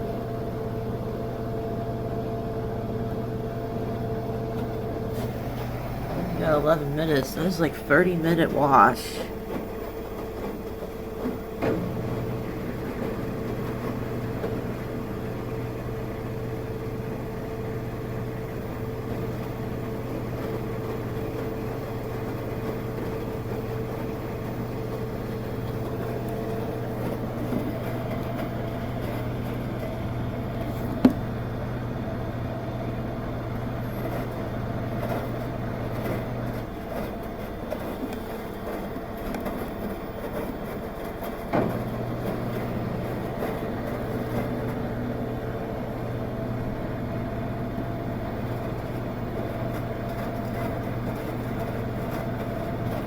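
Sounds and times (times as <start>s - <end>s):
washing machine motor hum: 0.0s - 53.0s.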